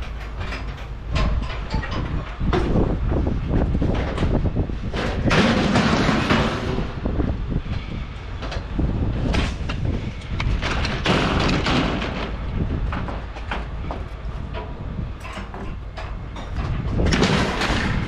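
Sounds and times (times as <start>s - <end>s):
low engine rumble: 0.0s - 18.0s
scrap metal clanking and banging: 0.0s - 18.0s.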